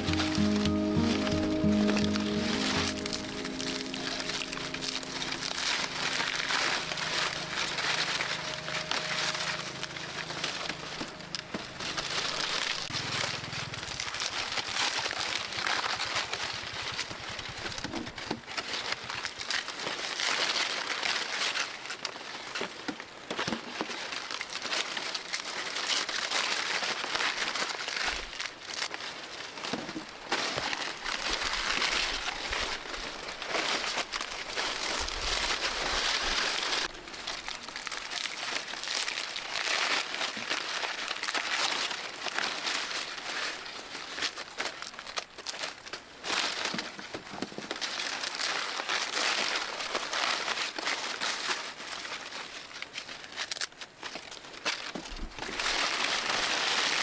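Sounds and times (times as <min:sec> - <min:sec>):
dry rustling and crinkling: 0:00.0 - 0:17.3, 0:18.2 - 0:57.0.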